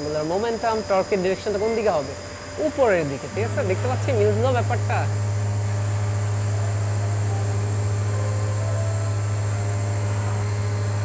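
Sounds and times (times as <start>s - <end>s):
propeller whirring with low hum: 0.0s - 11.0s.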